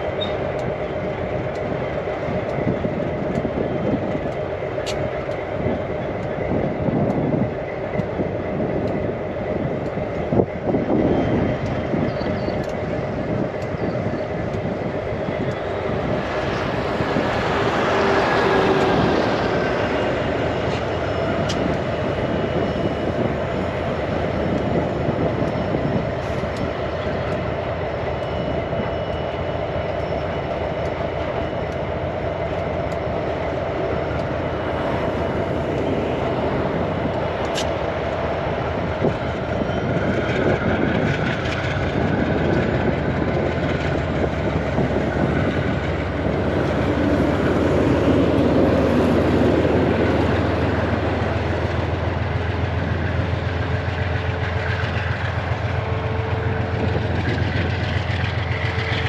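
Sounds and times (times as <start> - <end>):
diesel locomotive engines: 0.0 - 59.0.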